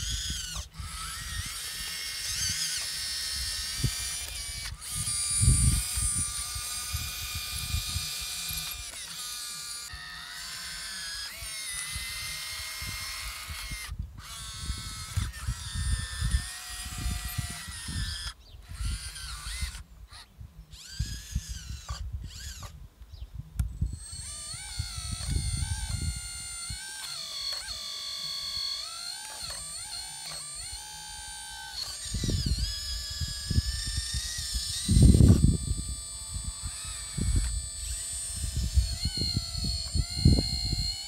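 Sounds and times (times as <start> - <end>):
hydraulic pump whining: 0.0 - 22.8, 23.6 - 41.0.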